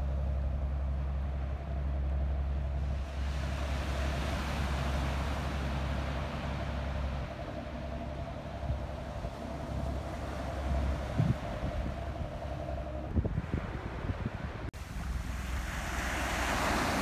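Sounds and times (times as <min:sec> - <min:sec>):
steady low hum: 0:00.0 - 0:16.1
wind rumbling on microphone: 0:00.0 - 0:17.0.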